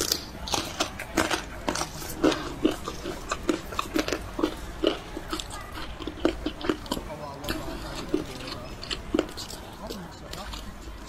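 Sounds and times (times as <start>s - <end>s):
low steady background hum: 0.0s - 11.0s
person chewing crunchy food: 0.0s - 11.0s.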